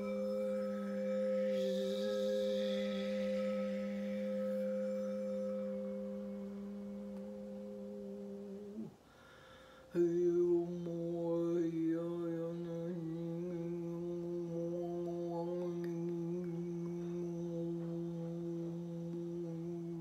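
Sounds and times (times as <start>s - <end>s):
person humming: 0.0s - 9.0s, 9.9s - 20.0s
singing bowl tone: 0.0s - 9.0s, 9.6s - 20.0s
struck bowl tone: 0.0s - 20.0s.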